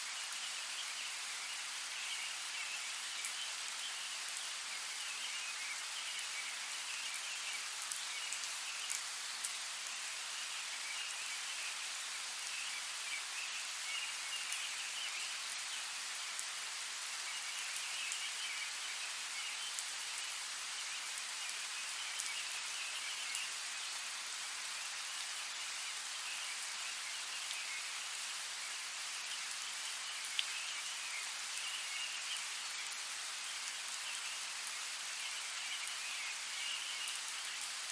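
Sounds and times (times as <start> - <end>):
steady rain in a forest: 0.0 - 37.9.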